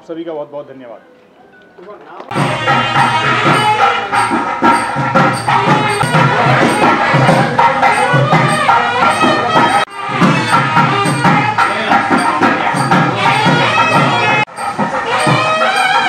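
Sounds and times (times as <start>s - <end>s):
music with steady beat: 2.3s - 16.0s.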